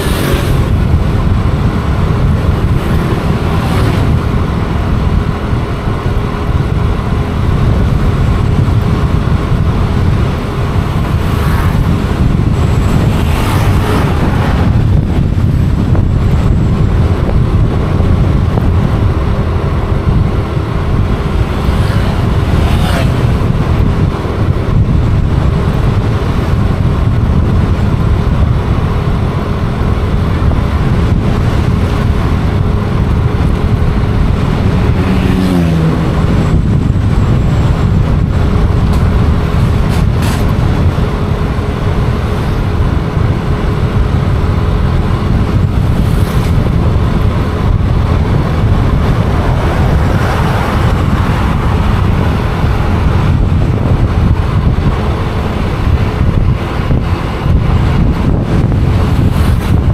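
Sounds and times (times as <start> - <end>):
steady low rumble: 0.0 - 59.9
vehicle engines passing: 0.0 - 59.9.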